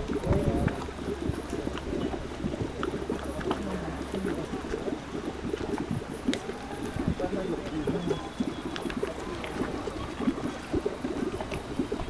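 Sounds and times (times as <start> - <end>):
mud pool bubbling and popping: 0.0 - 12.0.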